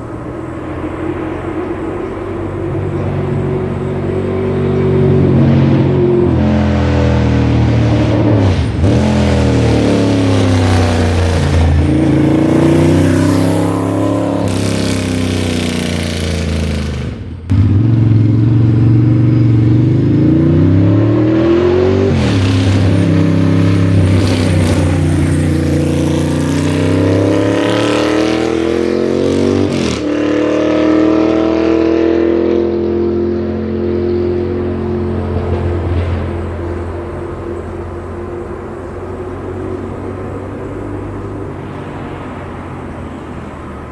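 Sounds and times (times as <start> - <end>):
motorcycle engine running loud: 0.0 - 41.4.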